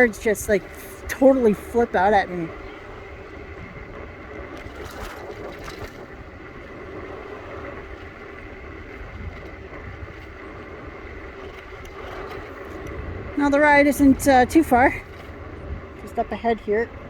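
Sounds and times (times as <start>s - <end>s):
faint electric motor whine: 0.0s - 17.0s
road noise: 0.0s - 17.0s
wind rumble on microphone: 0.0s - 17.0s.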